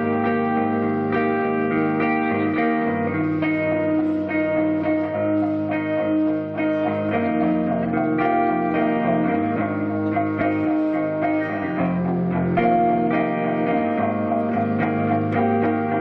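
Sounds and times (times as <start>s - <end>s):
guitar chords ringing: 0.0s - 16.0s.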